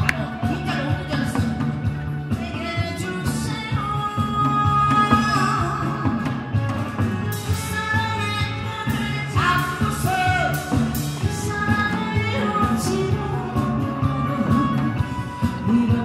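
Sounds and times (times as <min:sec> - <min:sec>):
backing track with steady beat: 0:00.0 - 0:16.0
woman singing into a microphone: 0:02.3 - 0:16.0.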